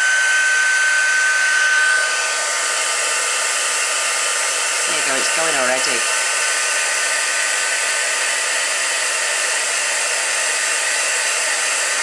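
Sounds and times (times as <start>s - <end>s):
heat tool blowing: 0.0s - 12.0s.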